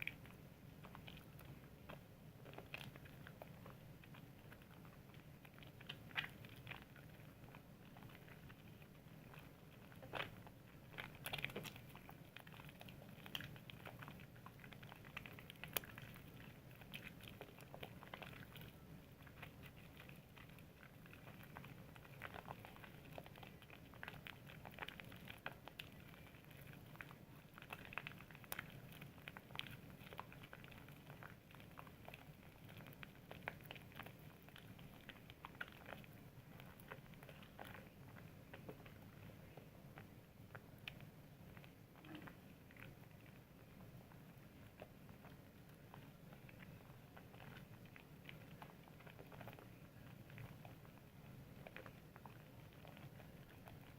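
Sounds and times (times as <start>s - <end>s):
soap bubbles crackling: 0.0s - 53.9s
soap lathering wet squishing: 0.0s - 53.9s.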